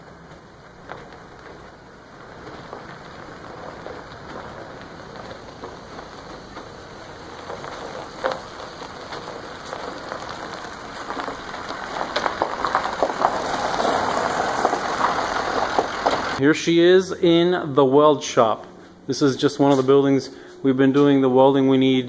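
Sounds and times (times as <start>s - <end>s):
tyres crunching on gravel: 0.0s - 22.0s.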